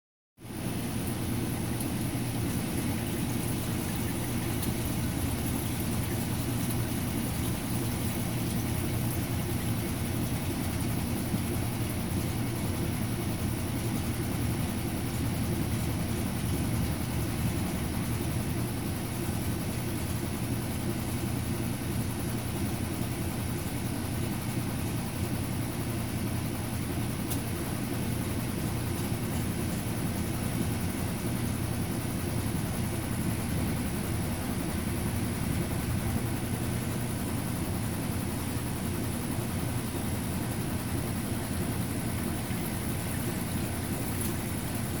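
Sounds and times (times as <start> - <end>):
pump motor humming: 0.4 - 45.0.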